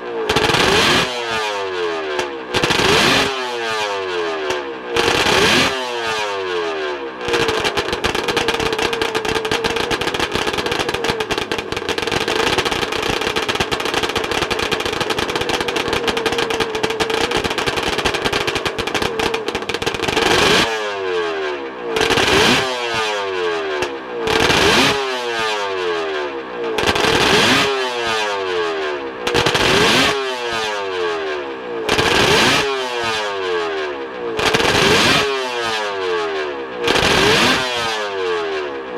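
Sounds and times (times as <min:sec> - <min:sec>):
two-stroke race engine revving: 0:00.0 - 0:38.9.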